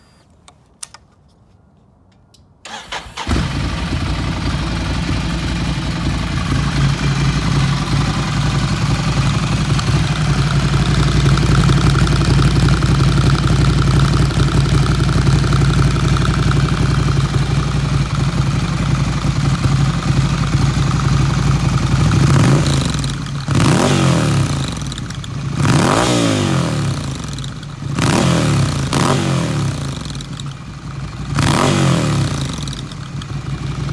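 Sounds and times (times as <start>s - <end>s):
motorcycle engine idling and revving: 2.7s - 33.9s.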